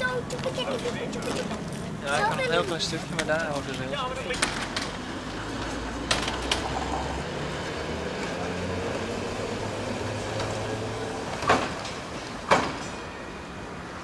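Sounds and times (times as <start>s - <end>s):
electric tram motor hum: 1.0s - 14.0s.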